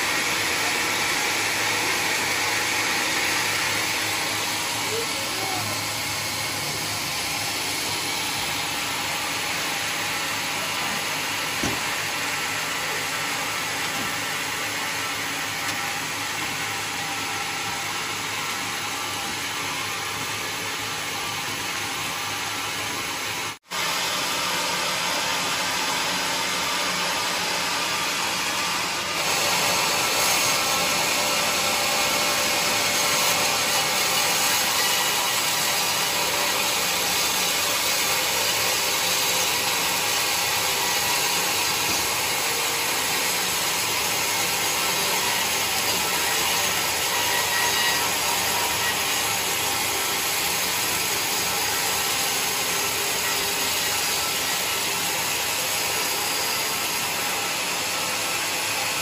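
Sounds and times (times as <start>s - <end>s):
saw cutting through a log: 0.0s - 59.0s.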